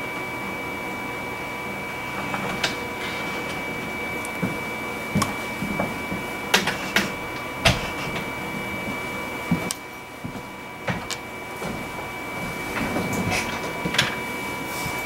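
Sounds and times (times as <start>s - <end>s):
machine hum with high whine: 0.0s - 15.0s.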